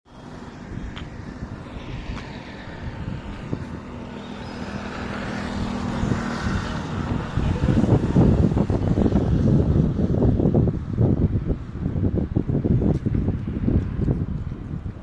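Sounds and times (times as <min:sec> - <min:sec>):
low engine rumble with hum: 0:00.1 - 0:15.0.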